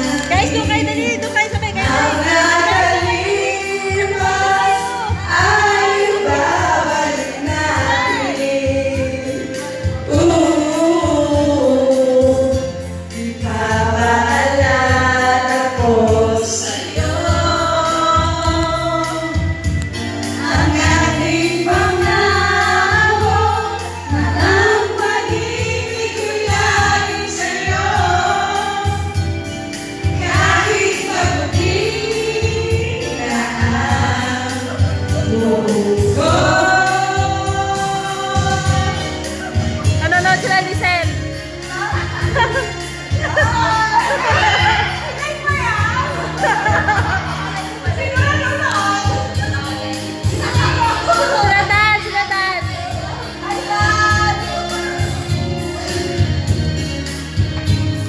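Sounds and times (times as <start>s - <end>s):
backing track with steady beat: 0.0s - 58.0s
women singing karaoke: 0.0s - 58.0s.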